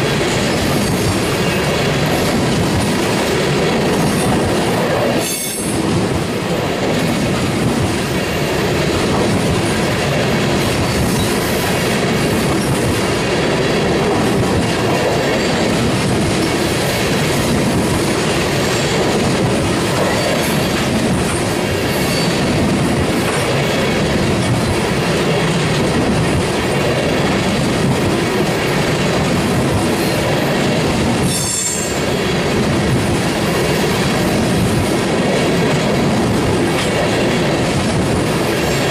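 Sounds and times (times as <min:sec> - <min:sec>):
train rumble and rattle: 0:00.0 - 0:38.9
train wheels clattering: 0:00.0 - 0:38.9.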